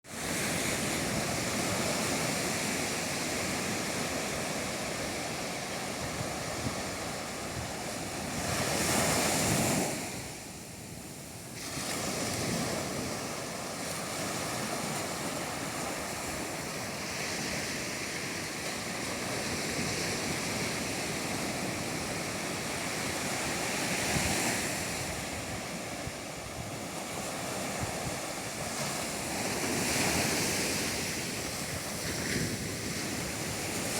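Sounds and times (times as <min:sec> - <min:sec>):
ocean waves breaking: 0:00.1 - 0:33.9
wind buffeting microphone: 0:00.2 - 0:10.4, 0:11.8 - 0:33.9.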